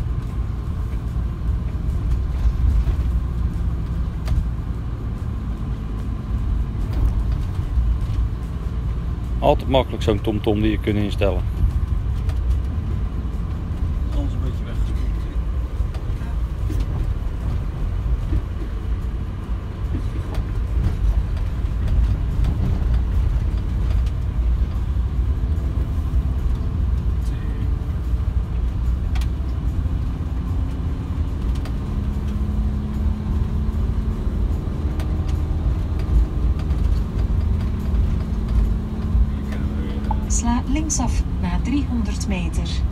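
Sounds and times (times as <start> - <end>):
faint engine hum: 0.0 - 42.9
van engine and tyre noise: 0.0 - 42.9.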